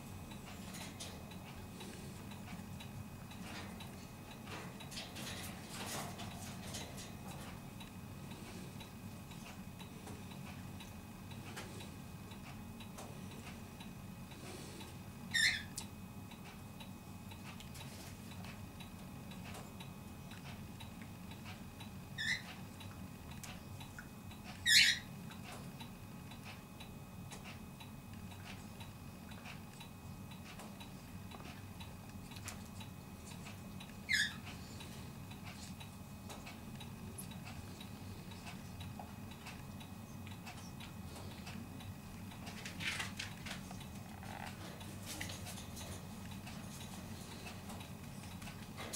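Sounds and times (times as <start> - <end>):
faint regular ticking: 0.0 - 48.9
low steady hum: 0.0 - 48.9.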